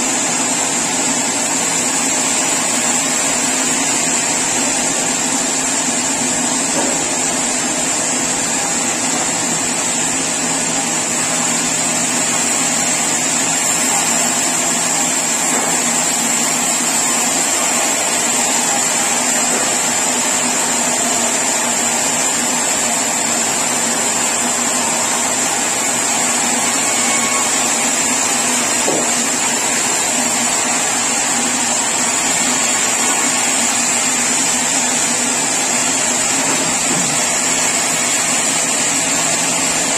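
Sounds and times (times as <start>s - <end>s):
high mechanical whine: 0.0s - 39.9s
sawmill machinery humming: 0.0s - 39.9s.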